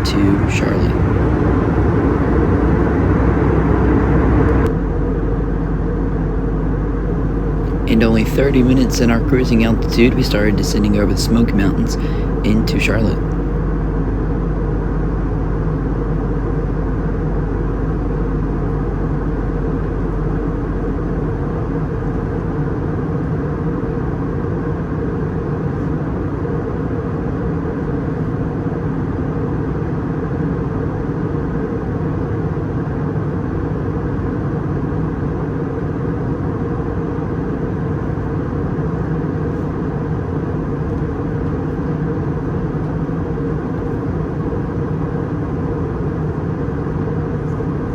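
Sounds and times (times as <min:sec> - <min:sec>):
airplane cabin drone: 0:00.0 - 0:47.9.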